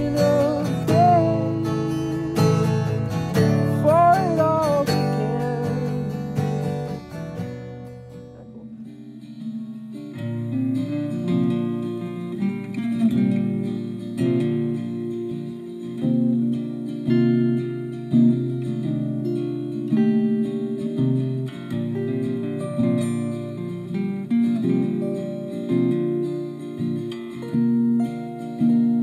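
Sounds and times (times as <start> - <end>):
acoustic guitar music: 0.0 - 29.0.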